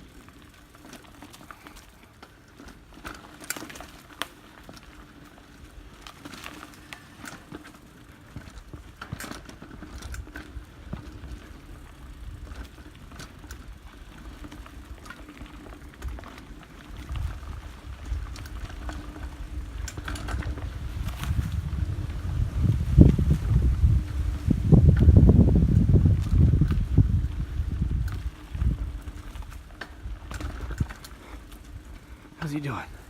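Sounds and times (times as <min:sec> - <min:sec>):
bike clicks and rattles: 0:00.0 - 0:33.0
bike tyres crunching on dirt: 0:00.0 - 0:33.0.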